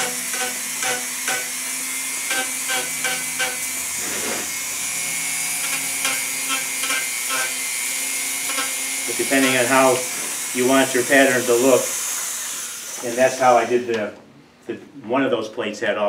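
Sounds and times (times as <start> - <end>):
rotary tool cutting wood: 0.0 - 14.0.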